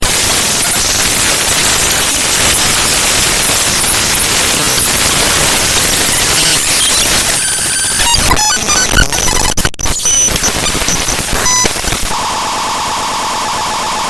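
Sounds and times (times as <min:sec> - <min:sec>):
loud static hiss: 0:00.0 - 0:12.2.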